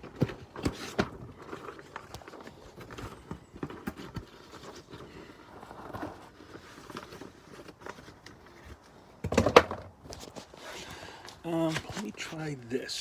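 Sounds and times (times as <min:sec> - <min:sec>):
paper rustling: 0:00.0 - 0:09.1, 0:10.1 - 0:12.4.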